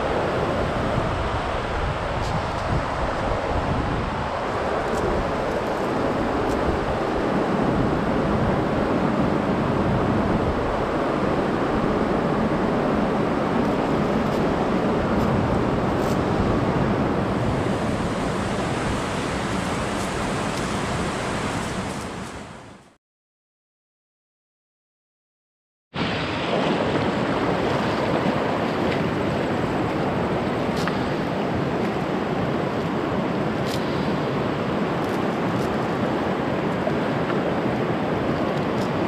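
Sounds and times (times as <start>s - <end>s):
river rushing over stones: 0.0s - 22.7s, 26.0s - 39.0s.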